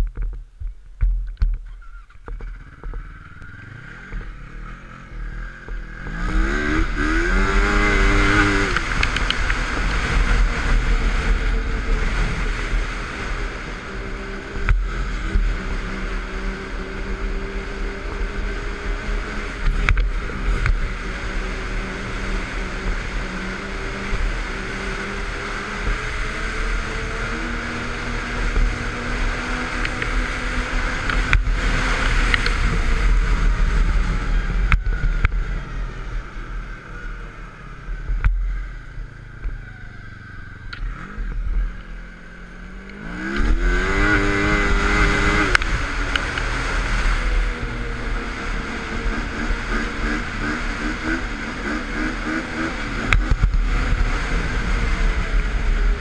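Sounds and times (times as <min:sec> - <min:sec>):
snowmobile engine revving: 0:01.8 - 0:56.0.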